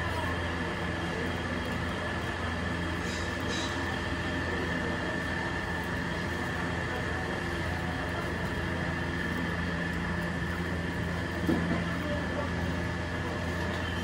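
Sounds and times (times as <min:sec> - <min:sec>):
machine drone with high whistle: 0:00.0 - 0:14.0.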